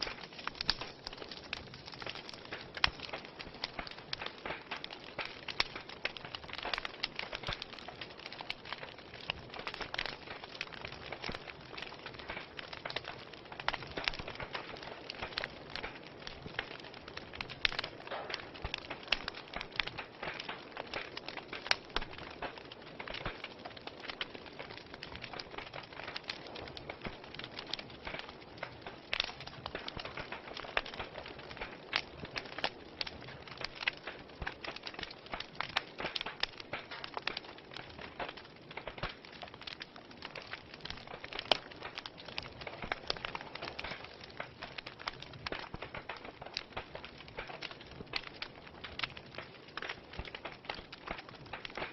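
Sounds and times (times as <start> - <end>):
fire pops and snaps: 0.0 - 51.9
wood fire crackling: 0.0 - 51.9.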